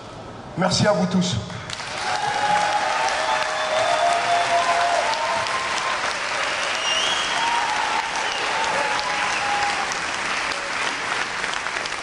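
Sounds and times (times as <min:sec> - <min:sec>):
large crowd applauding: 0:01.7 - 0:12.0.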